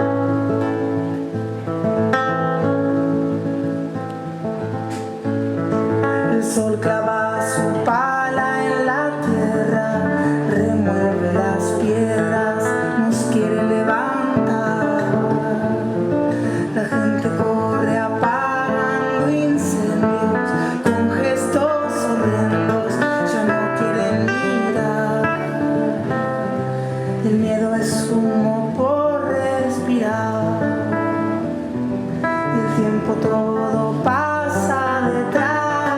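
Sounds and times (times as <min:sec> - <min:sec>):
acoustic guitar playing: 0:00.0 - 0:35.9
sliding melodic lines: 0:00.0 - 0:35.9.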